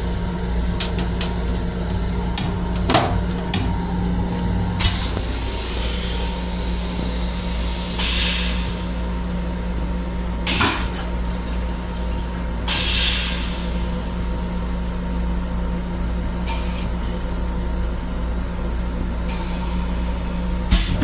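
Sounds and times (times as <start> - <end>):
electric railcar hum: 0.0 - 21.0.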